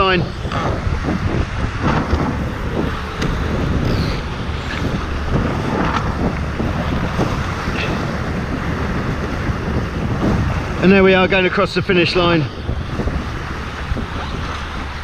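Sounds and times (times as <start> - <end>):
water rushing along hulls: 0.0 - 15.0
water splashes: 0.0 - 15.0
wind buffeting microphone: 0.0 - 15.0.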